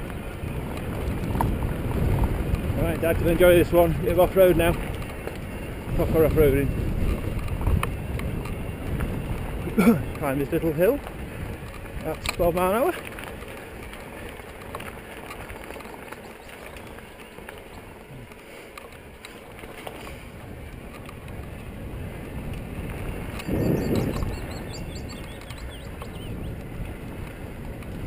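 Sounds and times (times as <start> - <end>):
bike tyres on gravel: 0.0 - 28.0
wind buffeting microphone: 0.0 - 28.0.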